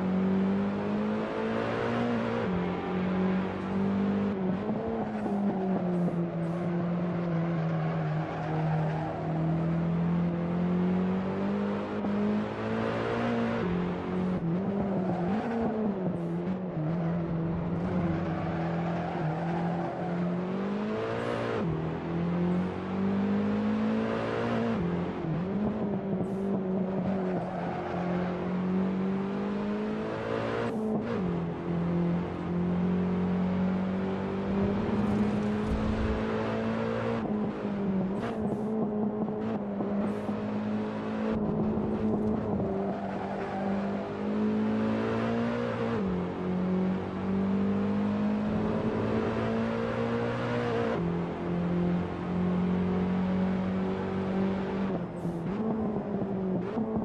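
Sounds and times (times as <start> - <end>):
car engine under load: 6.8 - 57.0.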